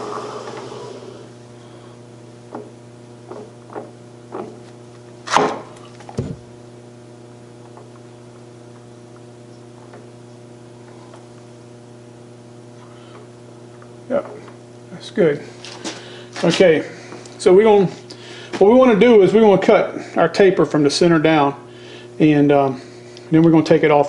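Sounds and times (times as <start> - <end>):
shop hum: 0.0 - 24.0.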